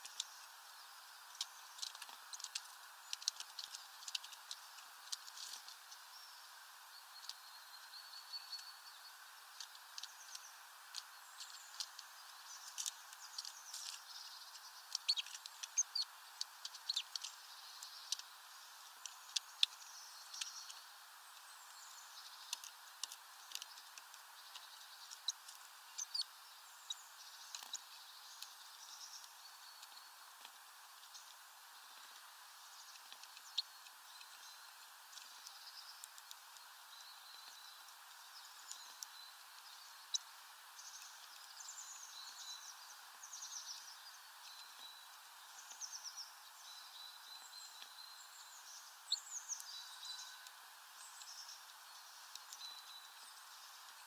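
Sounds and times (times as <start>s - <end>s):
birds pecking at seed: 0.0s - 46.1s, 46.9s - 54.0s
faint hiss: 0.0s - 54.0s.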